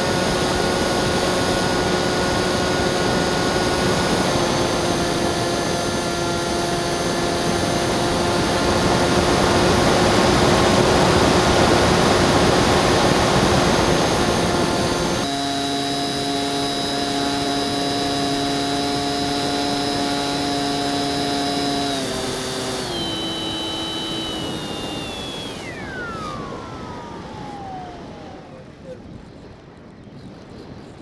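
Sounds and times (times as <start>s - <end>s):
electric motor and propeller whining: 0.0s - 29.5s.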